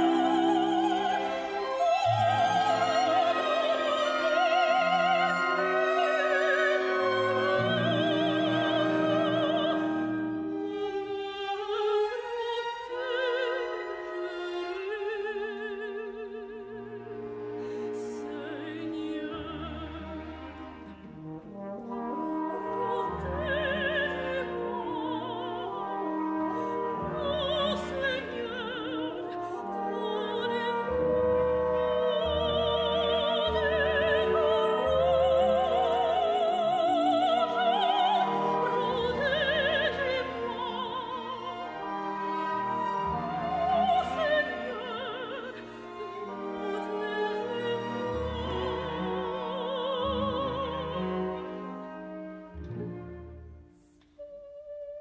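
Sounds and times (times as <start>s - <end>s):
soprano singing opera: 0.0s - 53.2s, 54.0s - 55.0s.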